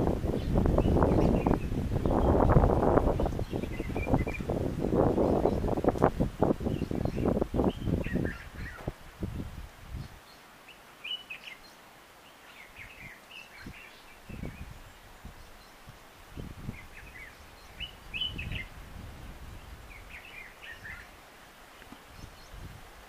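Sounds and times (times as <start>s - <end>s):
birds chirping: 0.3s - 22.8s.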